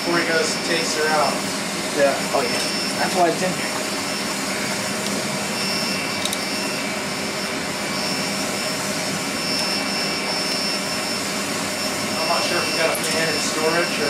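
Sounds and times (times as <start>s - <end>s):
electric fan whooshing: 0.0s - 14.0s
fan whine: 0.0s - 14.0s.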